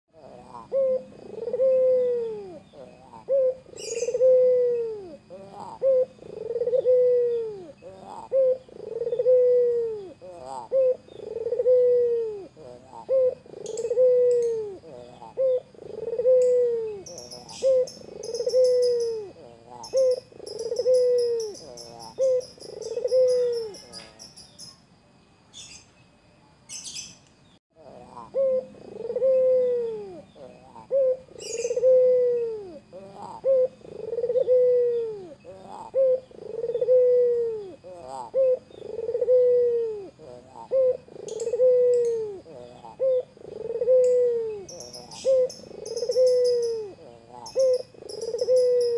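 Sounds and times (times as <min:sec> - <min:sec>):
dove cooing: 0:00.2 - 0:24.3, 0:27.8 - 0:48.9.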